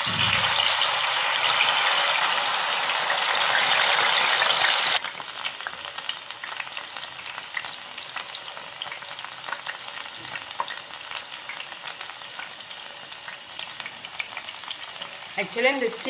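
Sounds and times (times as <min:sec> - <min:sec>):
potato sizzling in hot oil: 0:00.0 - 0:16.0.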